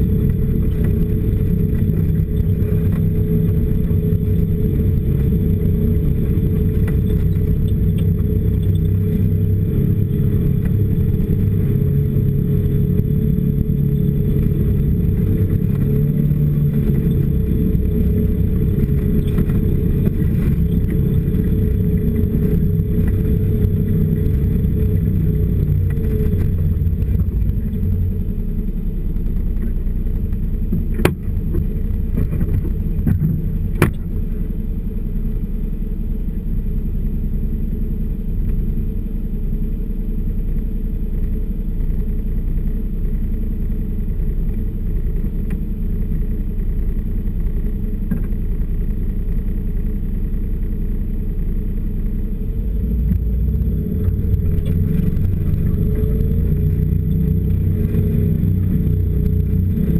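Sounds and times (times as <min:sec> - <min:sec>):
snowmobile engine idling: 0:00.0 - 0:59.9.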